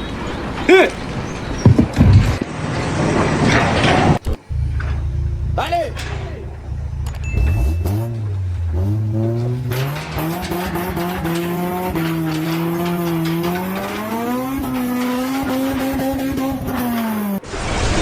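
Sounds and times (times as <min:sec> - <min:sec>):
vehicle engine revving hard: 0:01.6 - 0:17.4.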